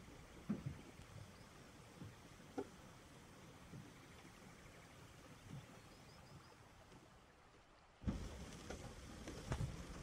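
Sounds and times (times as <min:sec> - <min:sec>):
faint rain hiss: 0:00.0 - 0:10.0.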